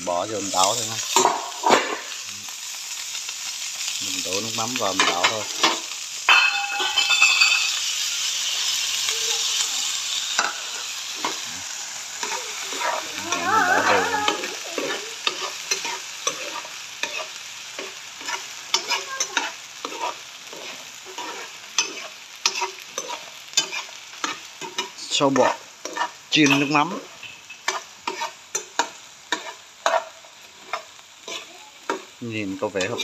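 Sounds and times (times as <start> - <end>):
sauce sizzling in a frying pan: 0.0 - 33.0.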